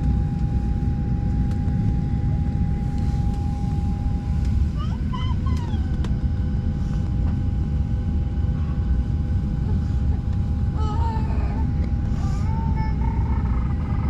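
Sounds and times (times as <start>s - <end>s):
airliner cabin rumble: 0.0s - 14.0s
engine and air system whine: 0.0s - 14.0s.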